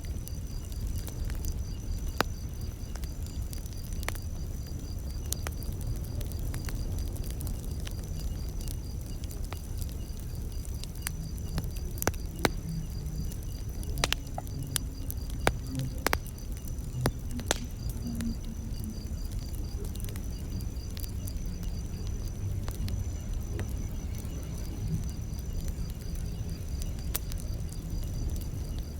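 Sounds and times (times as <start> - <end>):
campfire crackling and popping: 0.0 - 28.9
crickets chirping: 0.0 - 28.9.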